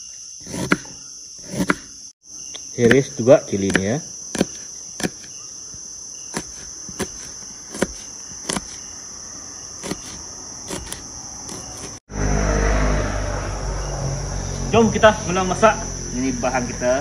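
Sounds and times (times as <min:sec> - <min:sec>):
night insects chorus: 0:00.0 - 0:17.0.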